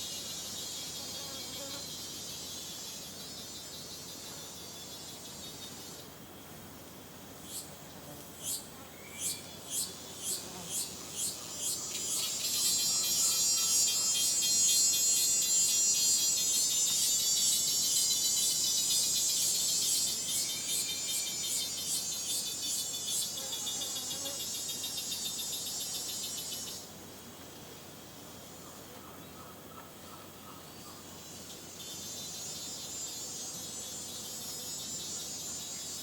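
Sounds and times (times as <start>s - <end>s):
insects chorus pulsing: 0.0s - 6.4s, 7.4s - 27.2s, 28.0s - 36.0s
slow insect chirps: 0.0s - 28.8s, 30.4s - 36.0s.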